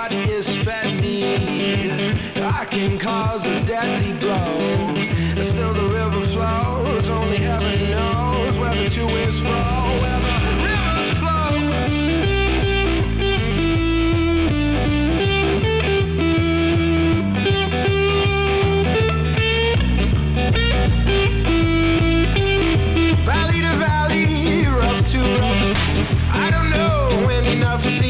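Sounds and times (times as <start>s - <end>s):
rock music with guitar: 0.0s - 28.0s
steady bass line: 5.1s - 28.0s.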